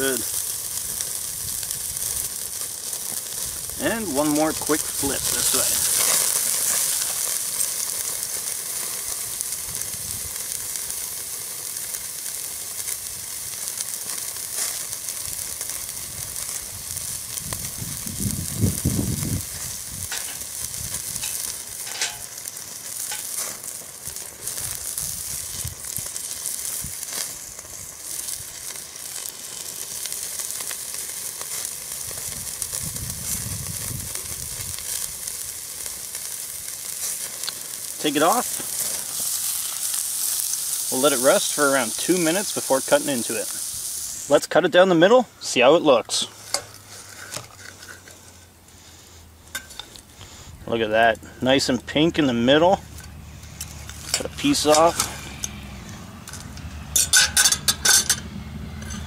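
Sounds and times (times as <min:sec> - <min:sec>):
fat crackling and popping: 0:00.0 - 0:59.0
steak sizzling on grate: 0:00.0 - 0:59.0.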